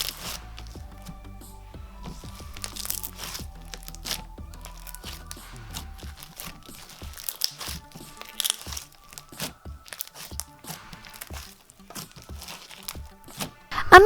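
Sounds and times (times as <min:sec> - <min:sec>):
foam slime crackling and popping: 0:00.0 - 0:13.8.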